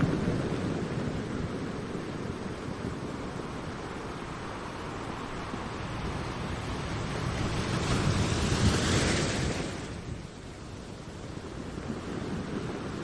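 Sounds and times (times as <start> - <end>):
ocean waves on shore: 0.0 - 13.0.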